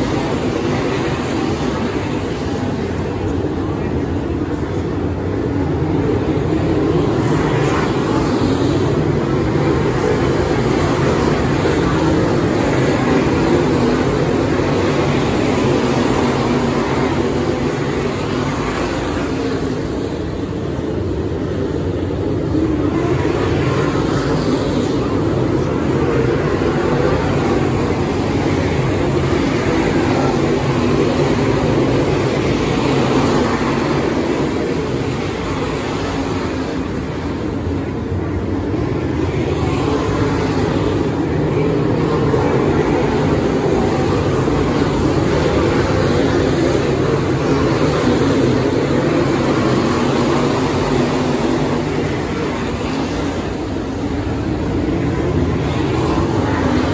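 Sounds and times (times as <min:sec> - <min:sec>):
race car engines droning: 0:00.0 - 0:56.9.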